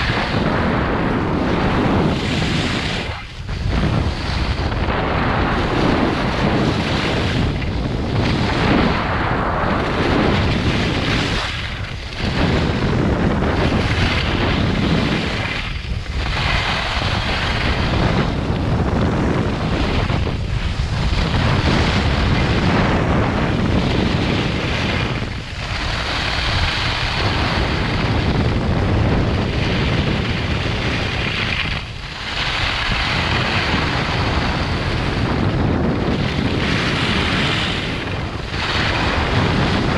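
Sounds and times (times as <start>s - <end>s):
skis sliding on snow: 0.0s - 39.9s
wind rushing over microphone: 0.0s - 39.9s.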